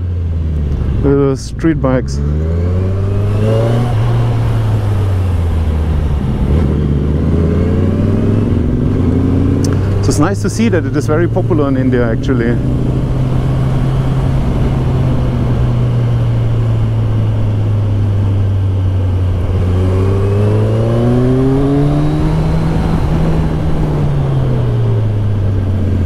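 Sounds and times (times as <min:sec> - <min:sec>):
motorcycle engine running: 0:00.0 - 0:26.0
wind noise: 0:02.4 - 0:26.0.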